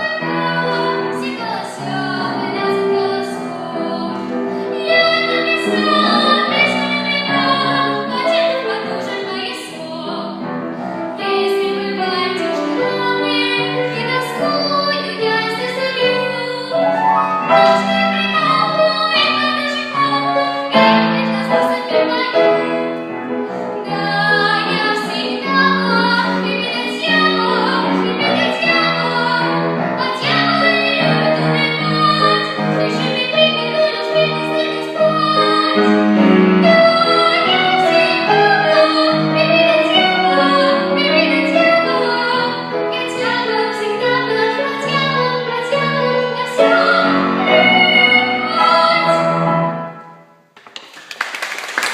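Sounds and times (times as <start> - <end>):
woman singing: 0.0 - 10.5, 11.2 - 23.2, 23.8 - 49.6
piano accompaniment: 0.0 - 50.6.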